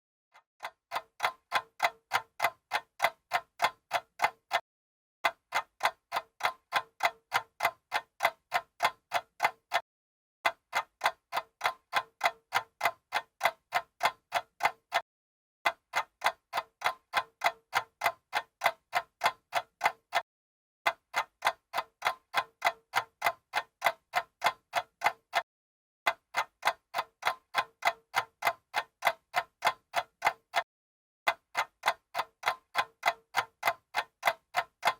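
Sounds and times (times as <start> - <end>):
mechanical stopwatch ticking: 0.6 - 4.6, 5.2 - 9.8, 10.5 - 15.0, 15.7 - 20.2, 20.9 - 25.4, 26.1 - 30.7, 31.3 - 34.9.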